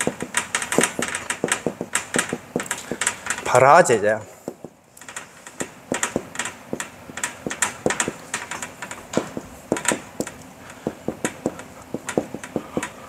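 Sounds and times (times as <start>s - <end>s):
marker writing on whiteboard: 0.0s - 3.6s, 4.3s - 13.0s.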